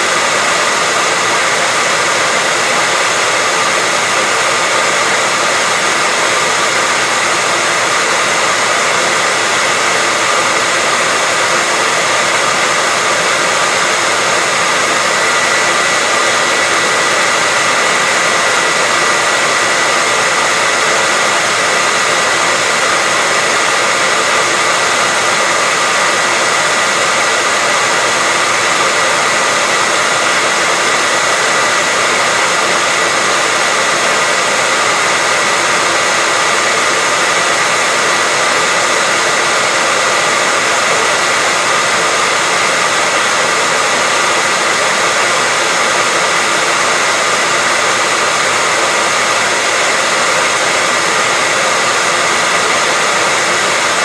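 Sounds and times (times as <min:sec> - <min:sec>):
hairdryer blowing air: 0:00.0 - 0:54.0.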